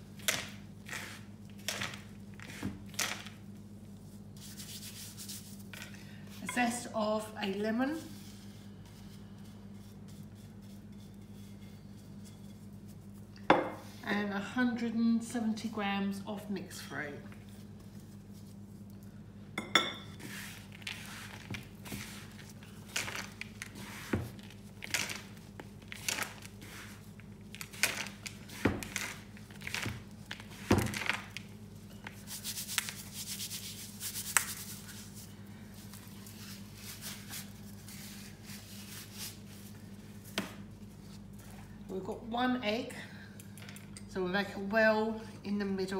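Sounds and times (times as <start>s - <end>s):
hands rustling in mixing bowl: 0.1s - 6.7s, 7.4s - 14.0s, 17.2s - 19.3s, 20.1s - 41.8s.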